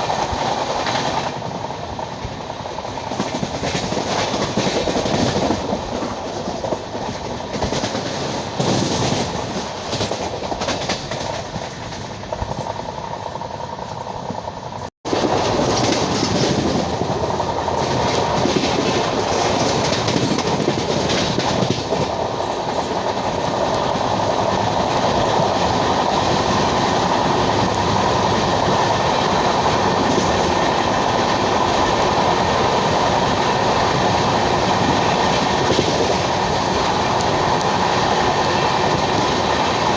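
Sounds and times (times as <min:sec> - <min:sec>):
train wheels clickety-clack on rails: 0:00.0 - 0:39.9.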